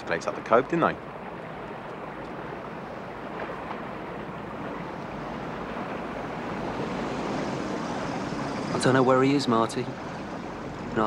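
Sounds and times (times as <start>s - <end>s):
steady rushing ambient noise: 0.0s - 11.0s.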